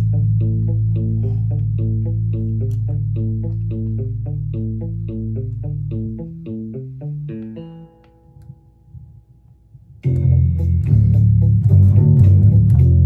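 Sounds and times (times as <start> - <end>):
electric bass guitar: 0.0 - 13.0.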